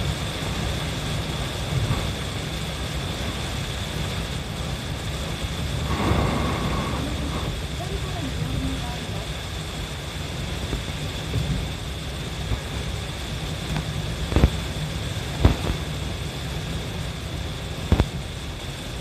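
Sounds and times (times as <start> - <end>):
rain and tyre spray hiss: 0.0 - 19.0
road and engine rumble: 0.0 - 19.0.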